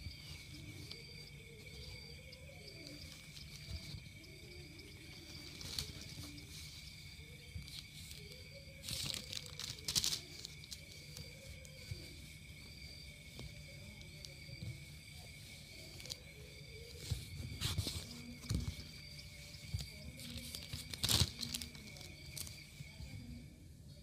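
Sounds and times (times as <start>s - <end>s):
rustling: 0.0s - 23.4s
steady high whine: 0.0s - 24.0s.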